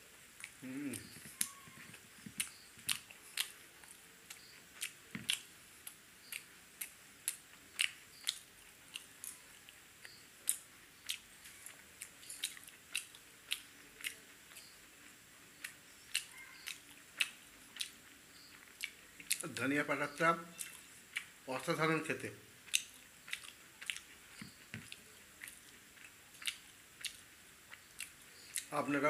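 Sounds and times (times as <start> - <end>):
person chewing wetly: 0.4 - 21.7, 22.6 - 28.8.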